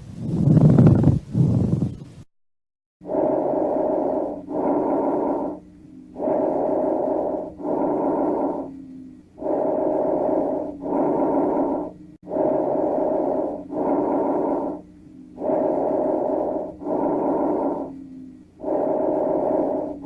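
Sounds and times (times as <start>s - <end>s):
lung breath sounds: 3.0s - 20.0s.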